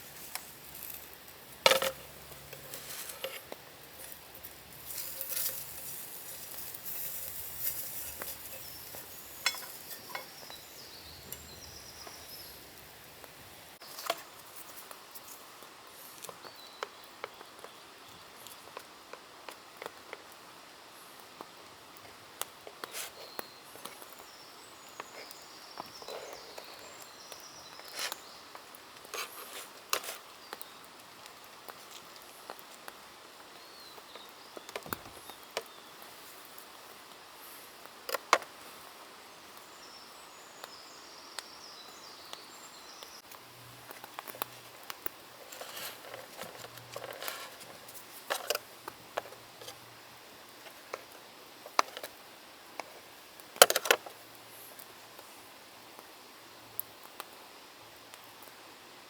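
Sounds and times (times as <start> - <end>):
fire crackling: 0.0 - 39.8, 42.2 - 59.0
food sizzling over fire: 0.0 - 59.0.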